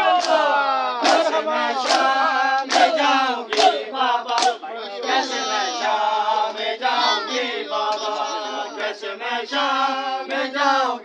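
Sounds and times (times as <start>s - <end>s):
voices chanting a mourning lament: 0.0s - 11.0s.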